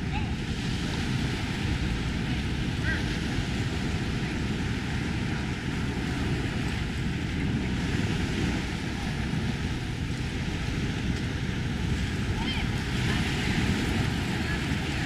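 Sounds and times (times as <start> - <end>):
surf breaking on beach: 0.0 - 15.0
wind rumbling on microphone: 0.0 - 15.0.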